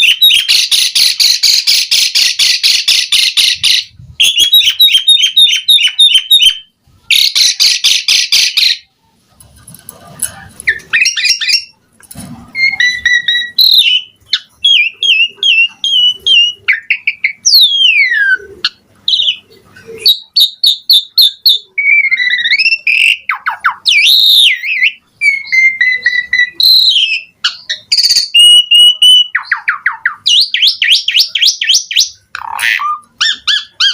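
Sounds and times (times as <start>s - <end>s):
starling singing: 0.0s - 8.9s, 10.1s - 11.8s, 12.5s - 33.9s.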